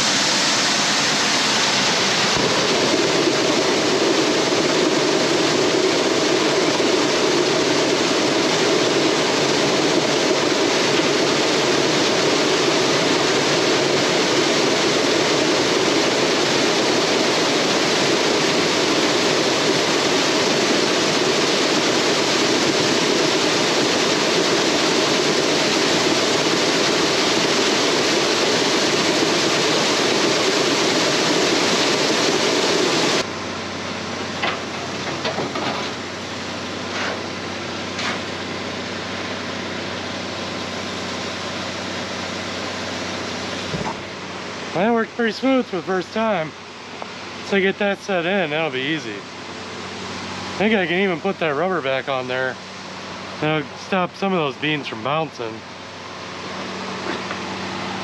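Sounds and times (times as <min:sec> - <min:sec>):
machinery running: 0:00.0 - 0:58.0.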